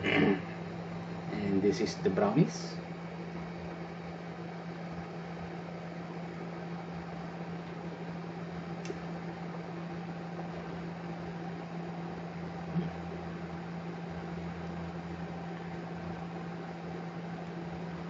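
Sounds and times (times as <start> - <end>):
appliance humming and hissing: 0.0 - 18.0.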